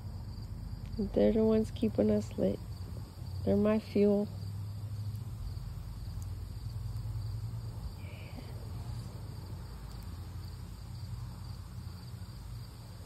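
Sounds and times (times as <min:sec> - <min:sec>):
crickets chirping: 0:00.0 - 0:13.0
low steady rumble: 0:00.0 - 0:13.0.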